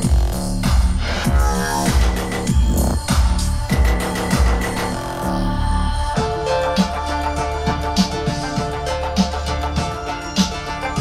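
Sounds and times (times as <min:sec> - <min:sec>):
heavy bass pulse: 0:00.0 - 0:08.8
electronic dance music: 0:00.0 - 0:11.0.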